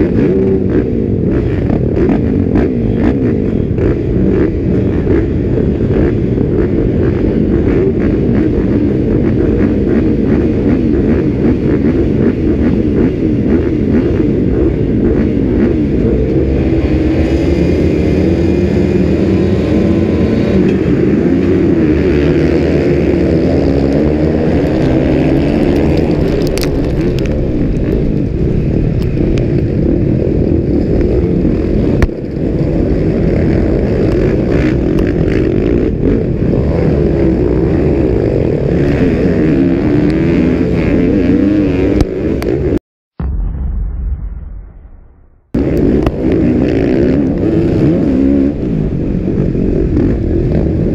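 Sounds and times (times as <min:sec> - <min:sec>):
motocross bike engine revving: 0:00.0 - 0:42.8
other motorbikes nearby: 0:00.0 - 0:42.8, 0:45.6 - 0:50.9.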